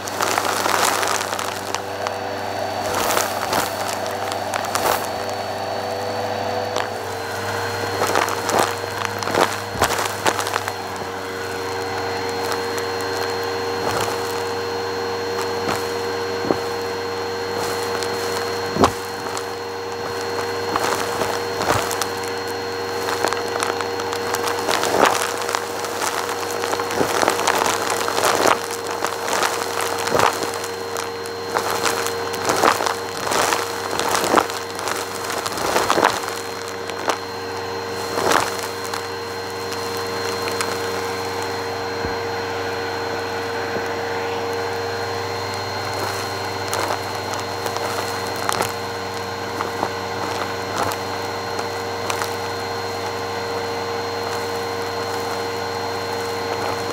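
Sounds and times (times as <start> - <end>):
debris crackling through hose: 0.0 - 56.9
vacuum cleaner running: 0.0 - 56.9.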